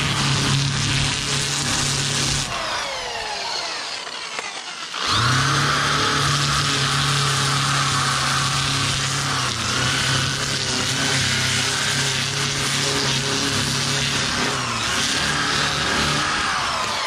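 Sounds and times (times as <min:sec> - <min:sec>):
drill spinning sanding wheel: 0:00.0 - 0:17.0.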